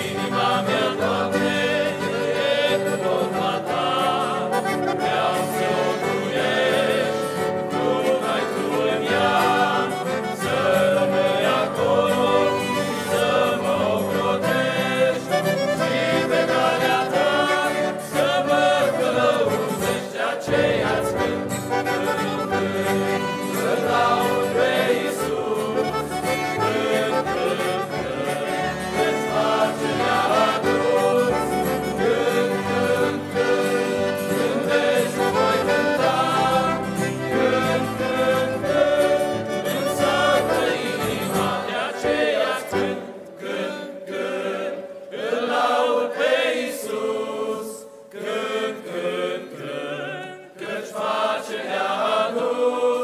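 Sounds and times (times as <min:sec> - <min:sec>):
guitar: 0:00.0 - 0:45.5
accordion: 0:00.0 - 0:53.0
boys choir singing a hymn: 0:00.0 - 0:53.0
keyboard: 0:00.0 - 0:53.0.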